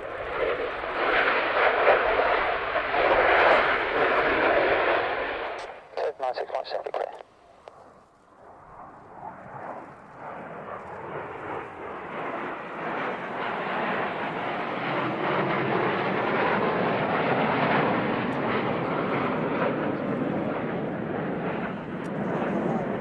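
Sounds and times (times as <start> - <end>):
jet aircraft passing overhead: 0.0 - 23.0.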